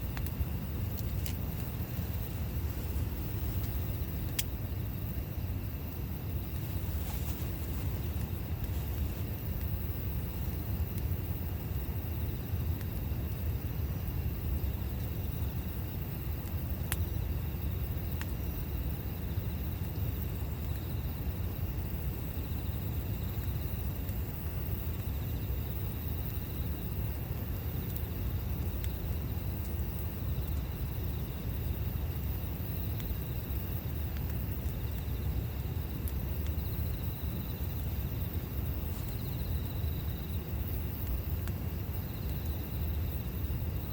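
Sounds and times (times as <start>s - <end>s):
campfire pops and crackles: 0.0s - 43.9s
insects chirping: 0.0s - 43.9s
low fire rumble: 0.0s - 43.9s.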